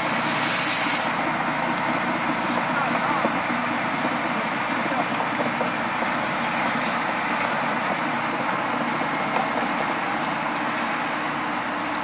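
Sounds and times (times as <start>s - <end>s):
construction machinery engines: 0.0s - 12.0s
traffic: 0.0s - 12.0s.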